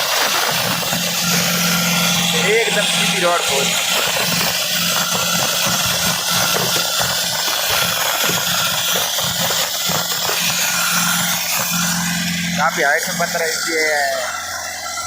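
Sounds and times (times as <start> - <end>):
rock drill hammering: 0.0 - 15.0
steady low drone: 0.0 - 15.0.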